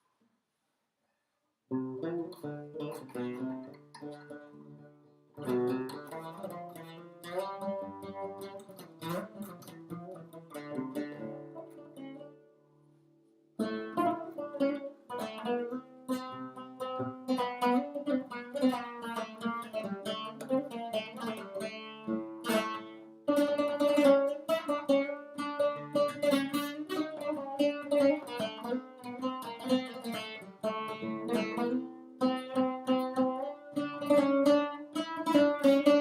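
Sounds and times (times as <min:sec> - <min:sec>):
plucked lute melody: 0:01.7 - 0:36.0.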